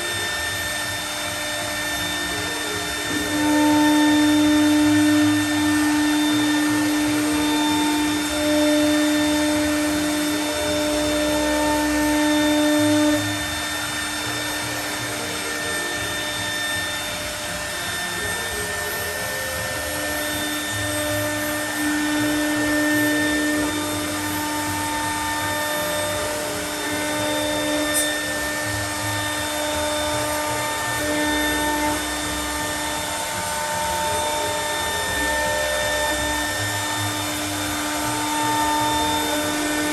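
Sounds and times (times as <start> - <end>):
router spindle milling panel: 0.0 - 39.9.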